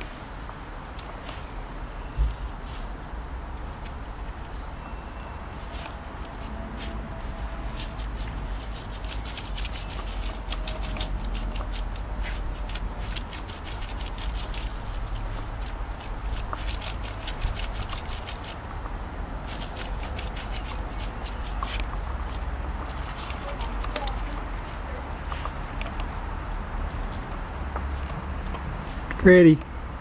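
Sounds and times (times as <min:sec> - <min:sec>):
puppy digging in wet mud: 0:00.0 - 0:28.2.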